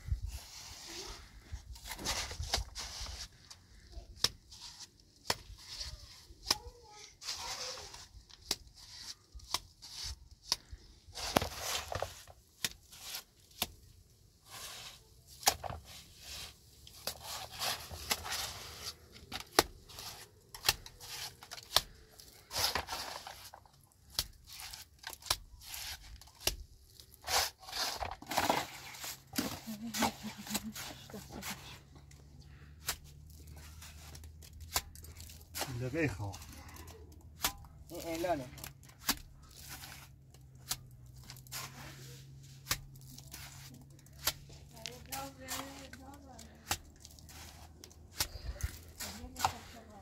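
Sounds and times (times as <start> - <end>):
scraping and rubbing strokes: 0.1 - 50.0.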